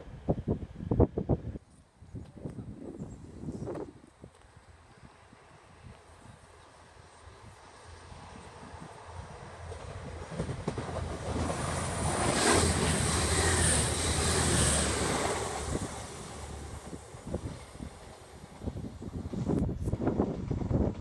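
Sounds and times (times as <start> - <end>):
train engine rumble and rail noise: 0.0 - 21.0.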